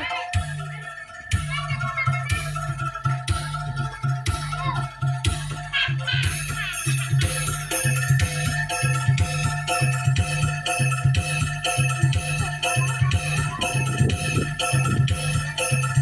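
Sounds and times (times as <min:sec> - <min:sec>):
sustained melodic tones: 0:00.0 - 0:16.0.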